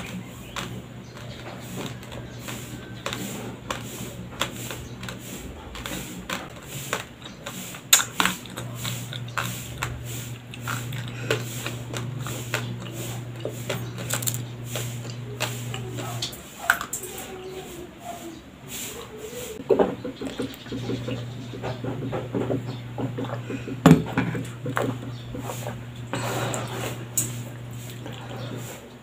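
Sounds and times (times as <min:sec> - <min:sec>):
chewing crunchy rice grains: 0:00.0 - 0:17.3, 0:20.2 - 0:29.0.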